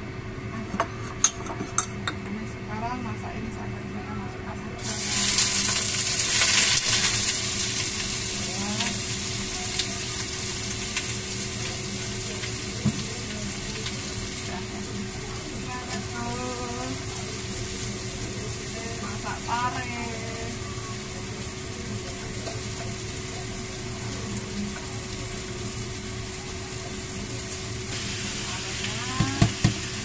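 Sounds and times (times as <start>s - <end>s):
shrimp sizzling in hot oil: 4.8s - 30.0s.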